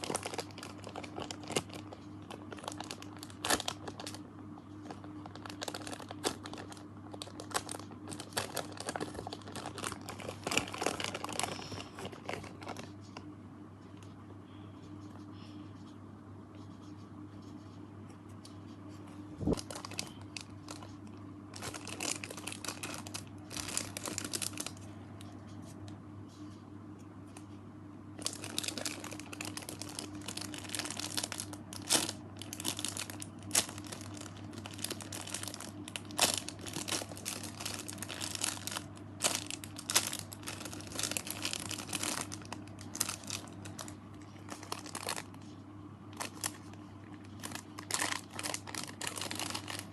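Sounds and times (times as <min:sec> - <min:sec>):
plastic crinkling: 0:00.0 - 0:13.3, 0:19.4 - 0:25.4, 0:28.2 - 0:49.9
steady low hum: 0:00.0 - 0:49.9.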